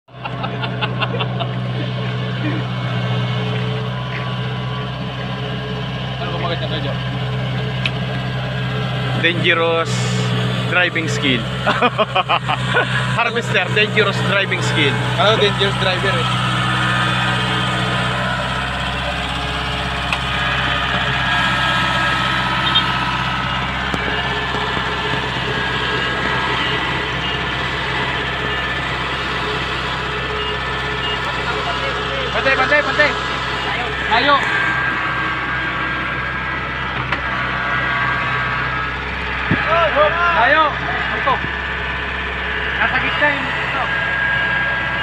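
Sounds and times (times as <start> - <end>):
combine harvester diesel engine: 0.0 - 45.0
machine whine: 0.1 - 45.0.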